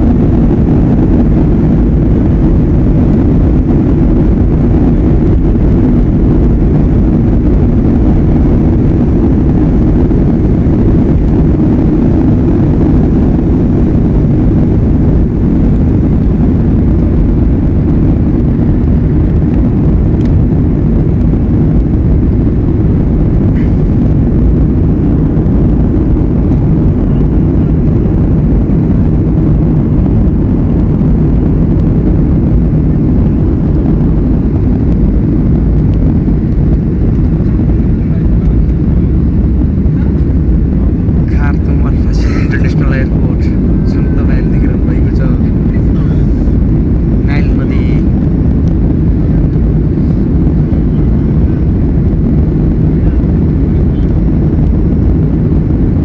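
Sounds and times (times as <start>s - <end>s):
aircraft engines in cabin: 0.0s - 56.0s.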